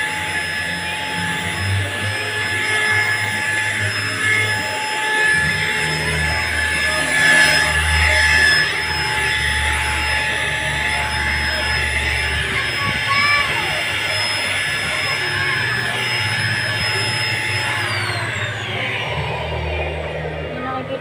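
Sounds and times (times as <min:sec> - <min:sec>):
deep hum: 0:00.0 - 0:21.0
handheld vacuum cleaner whining: 0:00.0 - 0:21.0.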